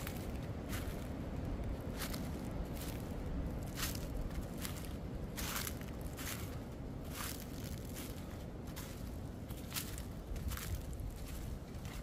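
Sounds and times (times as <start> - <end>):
footsteps on forest floor: 0.0 - 12.0
strong wind rumble: 0.0 - 12.0.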